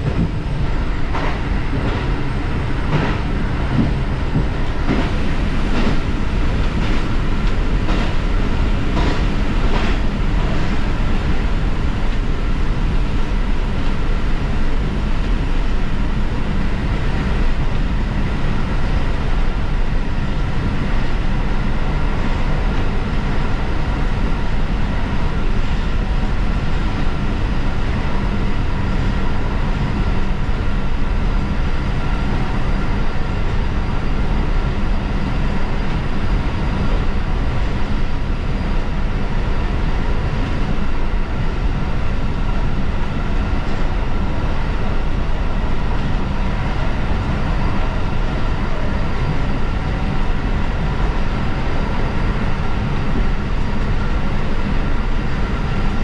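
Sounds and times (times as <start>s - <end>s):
railcar engine and wheels rumbling: 0.0s - 56.0s.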